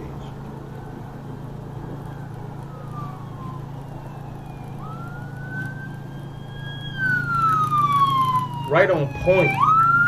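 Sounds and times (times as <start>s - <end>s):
road and engine hum: 0.0s - 10.0s
emergency siren wailing: 0.4s - 10.0s.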